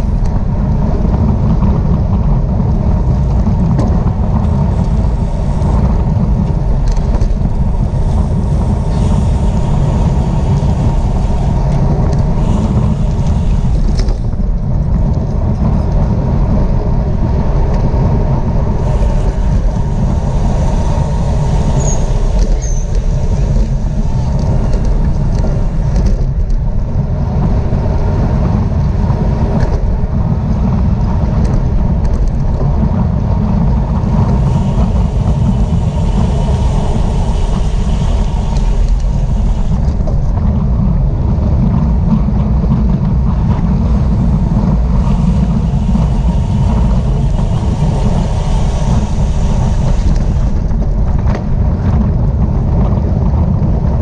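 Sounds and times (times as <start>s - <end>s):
bike and road hum: 0.0s - 54.0s
wind buffeting microphone: 0.0s - 54.0s.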